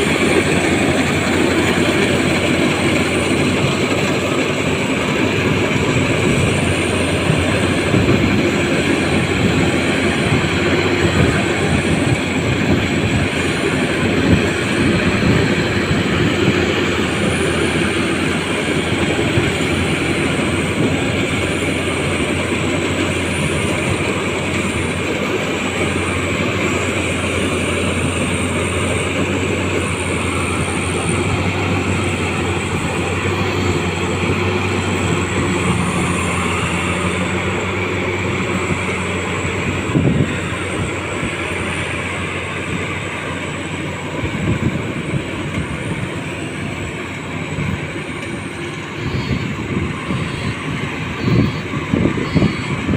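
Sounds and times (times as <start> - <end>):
combine harvester engine drone: 0.0 - 52.9
high whine: 0.0 - 52.9.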